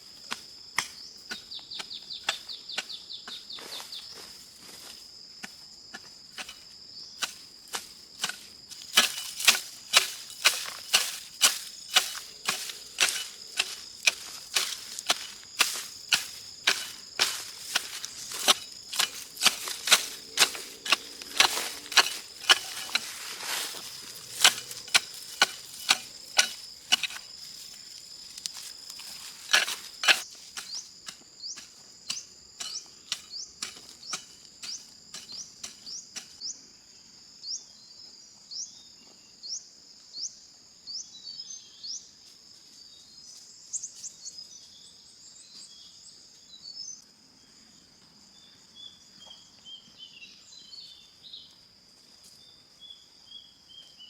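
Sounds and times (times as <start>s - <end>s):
high insect drone: 0.0s - 54.0s.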